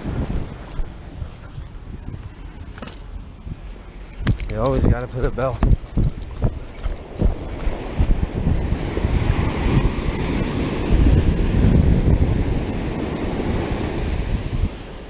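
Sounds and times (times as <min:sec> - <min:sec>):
ocean surf breaking: 0:00.0 - 0:05.5, 0:06.4 - 0:15.0
wind buffeting microphone: 0:00.0 - 0:15.0.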